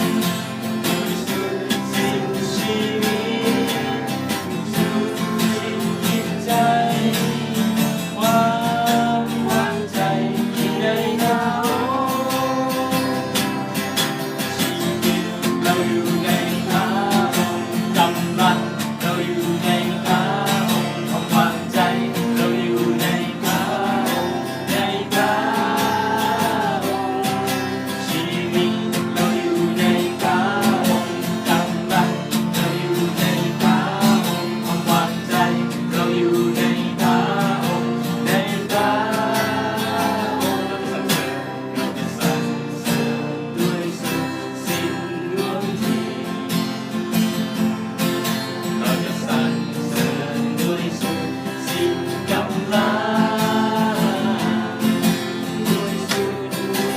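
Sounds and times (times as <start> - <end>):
strummed acoustic guitar: 0.0 - 56.9.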